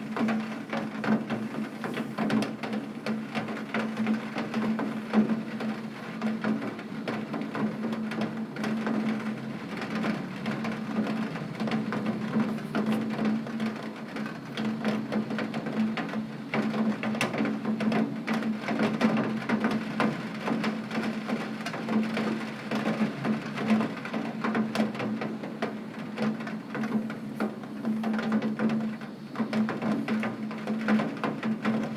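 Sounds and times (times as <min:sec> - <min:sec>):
heavy rain on window pane: 0:00.0 - 0:31.9.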